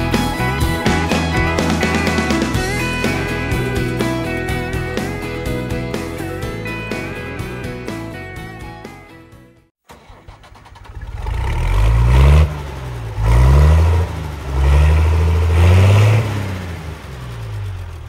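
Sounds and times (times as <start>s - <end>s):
vehicle engine revving: 0.0s - 9.0s, 10.0s - 18.0s.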